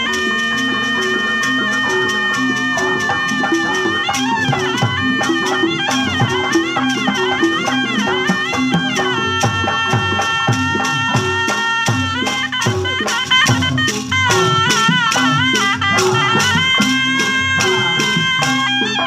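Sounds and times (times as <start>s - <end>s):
hand drumming: 0.0s - 19.0s
shawm playing ornamented melody: 0.0s - 19.0s.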